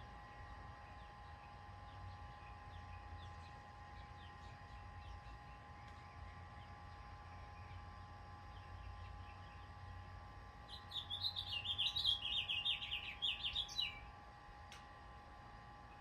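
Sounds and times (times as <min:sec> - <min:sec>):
faint steady hum: 0:00.0 - 0:16.0
small birds chirping: 0:00.3 - 0:14.1.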